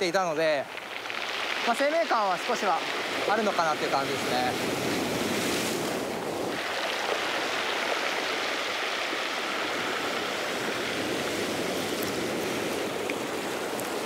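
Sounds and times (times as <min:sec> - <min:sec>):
waves washing up beach: 0:00.0 - 0:14.0.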